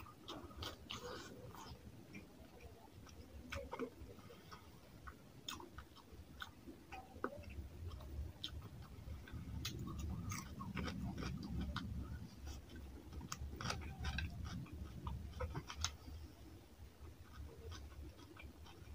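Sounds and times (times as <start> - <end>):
mouth chewing food: 0.0 - 18.9.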